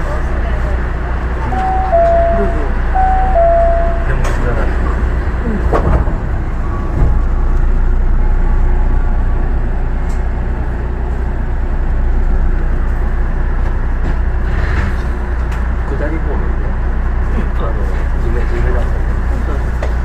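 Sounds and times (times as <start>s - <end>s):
monorail train rumbling: 0.0s - 20.0s.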